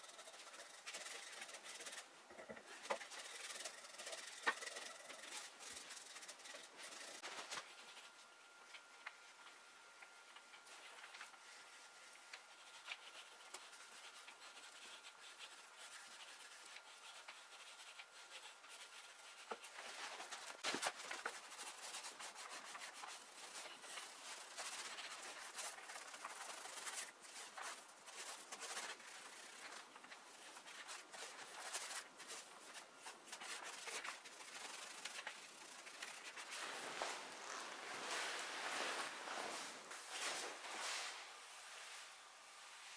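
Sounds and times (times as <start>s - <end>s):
brush rubbing on wood: 0.0s - 2.1s, 2.7s - 8.1s, 10.7s - 42.2s.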